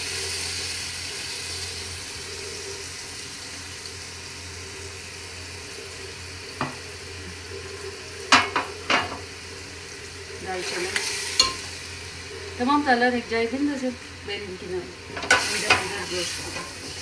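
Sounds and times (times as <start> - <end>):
onions frying in oil: 0.0 - 17.0.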